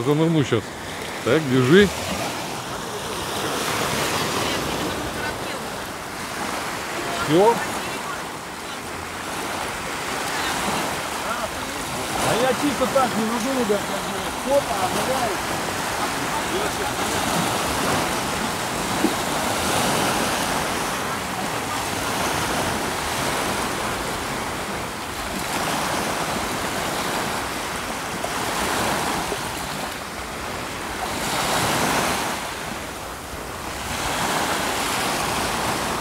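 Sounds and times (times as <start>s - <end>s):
small surf washing ashore: 0.0s - 36.0s.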